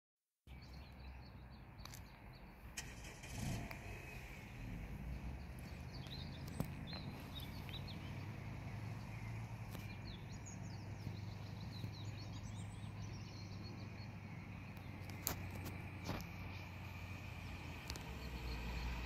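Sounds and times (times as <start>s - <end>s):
small birds chirping: 0.4s - 19.0s
steady low rumble: 2.7s - 19.0s.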